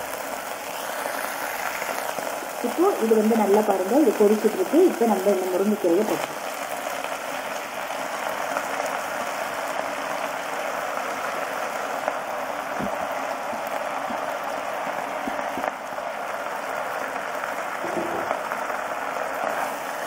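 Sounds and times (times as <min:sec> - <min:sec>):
water and oil boiling in pan: 0:00.0 - 0:20.0
leaves tapping into pan: 0:00.1 - 0:19.9.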